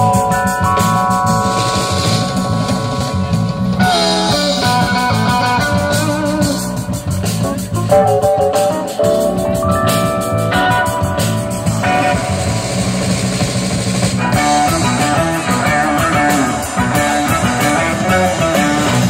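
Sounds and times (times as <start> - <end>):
electric guitar: 0.0 - 19.0
live rock band playing: 0.0 - 19.0
steady drum beat: 0.0 - 19.0.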